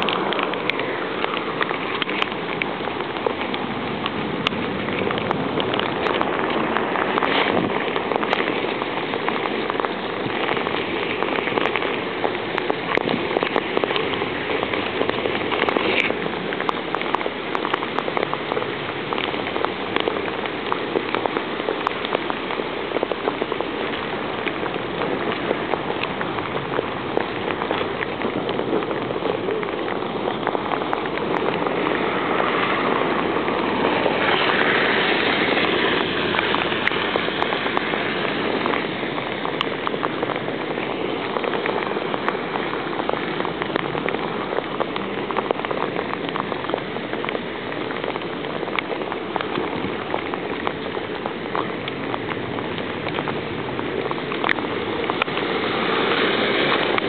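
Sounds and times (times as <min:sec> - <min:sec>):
rain on a paved road: 0:00.0 - 0:57.0.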